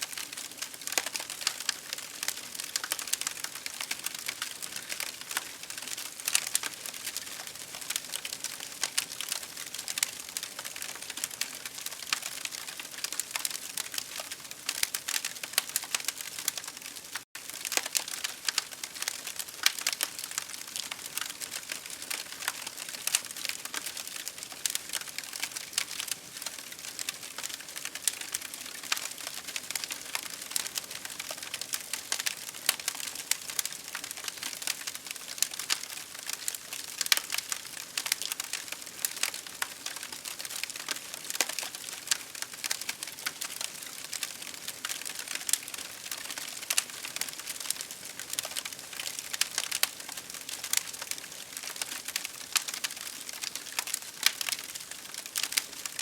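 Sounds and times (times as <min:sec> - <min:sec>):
campfire crackling: 0:00.1 - 0:56.0.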